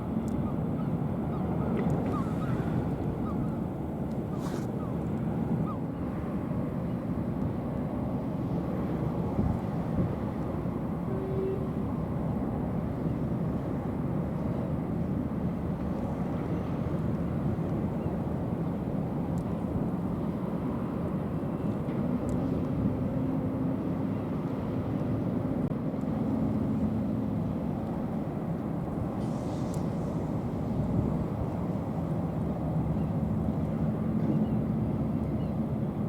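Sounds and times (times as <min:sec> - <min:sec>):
ferry engines rumbling: 0:00.0 - 0:36.0.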